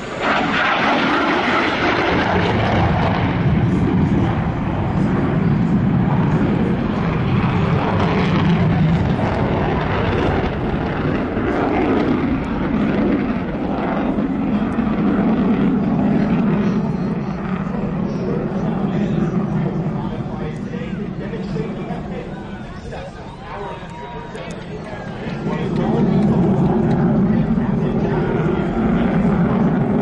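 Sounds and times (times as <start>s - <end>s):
fighter jet engines in afterburner: 0.0s - 30.0s.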